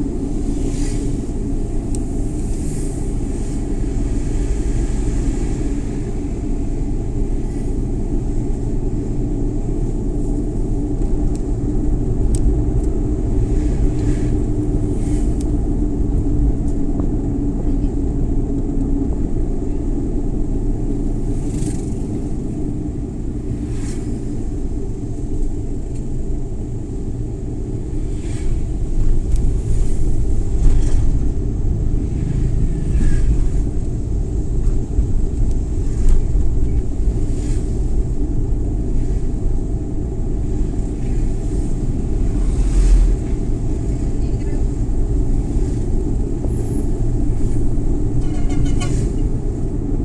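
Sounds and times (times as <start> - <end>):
car engine rumble: 0.0 - 50.0
tyres on the road: 0.0 - 50.0.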